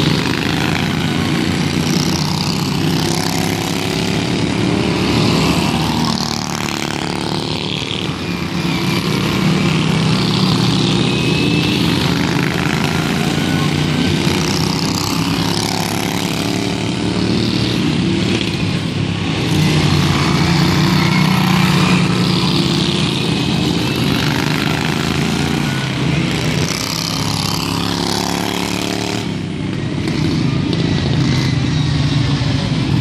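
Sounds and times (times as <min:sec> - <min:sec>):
racing lawn tractor engines droning: 0:00.0 - 0:33.0.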